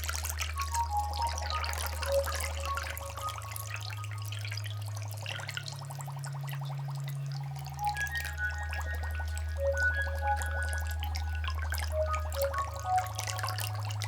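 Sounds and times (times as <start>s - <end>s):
ambient music drone: 0.0s - 14.0s
water dripping and bubbling: 0.0s - 14.0s.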